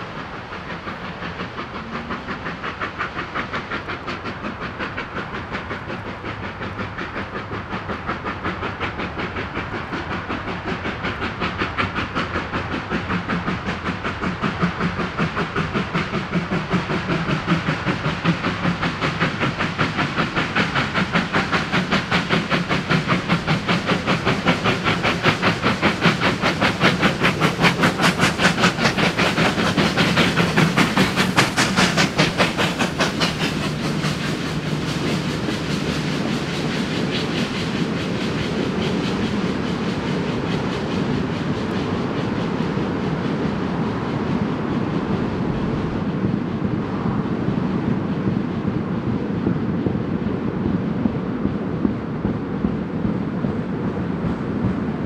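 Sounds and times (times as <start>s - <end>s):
steam hiss: 0.0s - 55.0s
steam locomotive exhaust beats: 0.0s - 55.0s.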